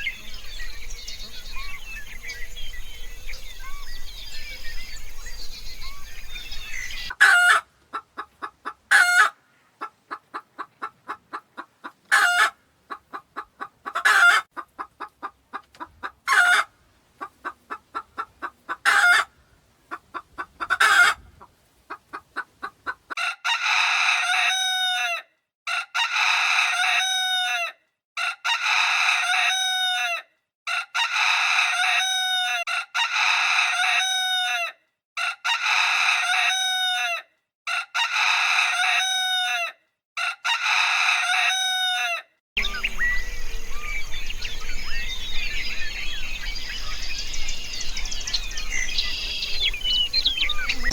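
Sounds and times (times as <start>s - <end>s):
chicken clucking and calling: 0.0s - 19.3s, 19.9s - 50.9s.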